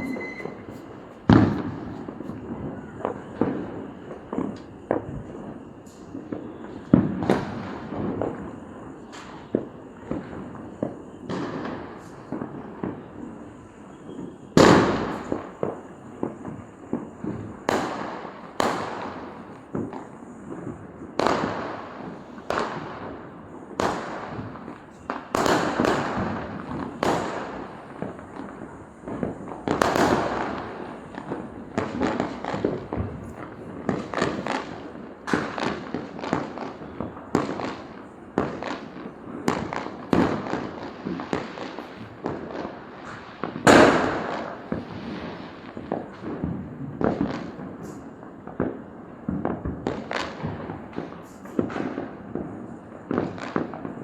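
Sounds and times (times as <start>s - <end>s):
firecracker bangs: 0.0s - 54.0s
fireworks crackling: 0.0s - 54.0s.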